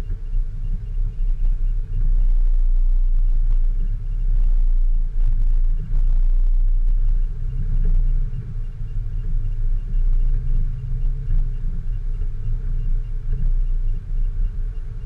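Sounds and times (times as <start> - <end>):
off-road vehicle rumble: 0.0 - 15.0.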